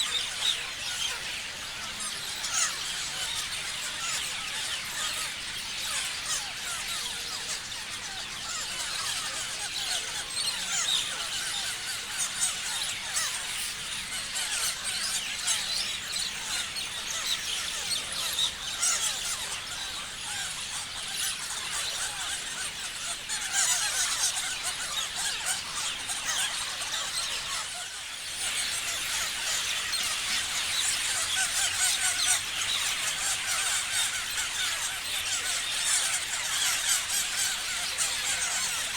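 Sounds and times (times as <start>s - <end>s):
flock of parrots chirping: 0.0s - 38.9s.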